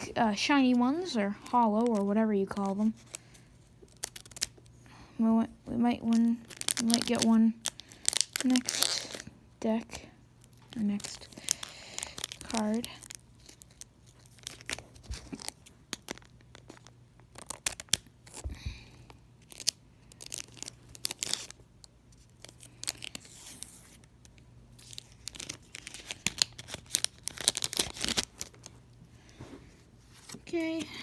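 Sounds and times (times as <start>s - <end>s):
foil wrapper crinkling and tearing: 0.6s - 4.7s, 6.1s - 9.3s, 10.4s - 18.4s, 19.0s - 28.8s.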